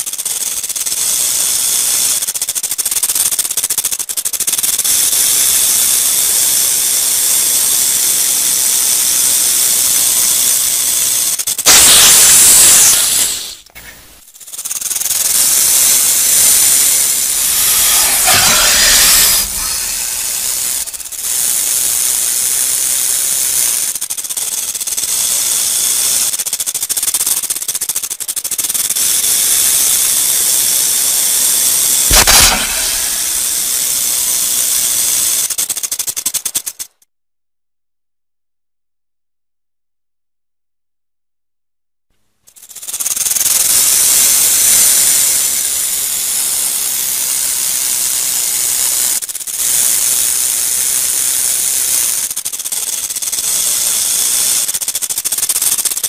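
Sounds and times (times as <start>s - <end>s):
rattlesnake tail rattling: 0.0s - 37.0s, 42.4s - 56.0s.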